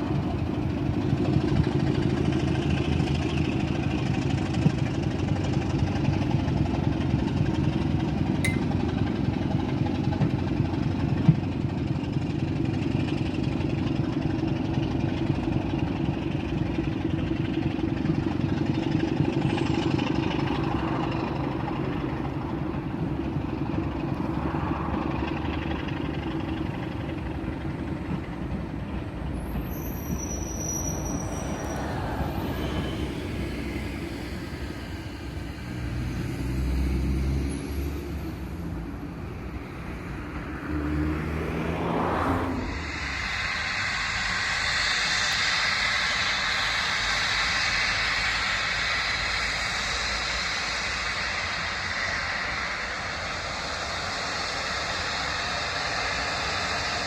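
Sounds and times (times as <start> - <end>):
train running past rumbling: 0.0 - 57.0.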